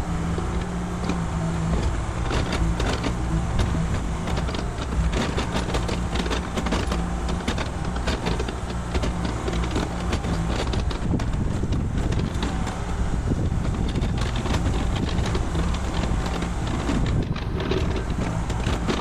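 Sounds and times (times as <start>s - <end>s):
diesel engine running: 0.0s - 19.0s
short knocks and clatter: 0.0s - 19.0s.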